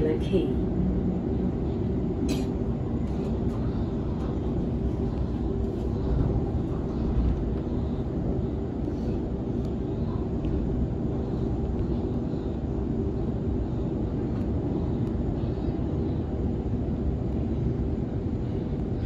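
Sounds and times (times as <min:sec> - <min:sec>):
faint steady hum: 0:00.0 - 0:19.0
train rumbling on track: 0:00.0 - 0:19.0.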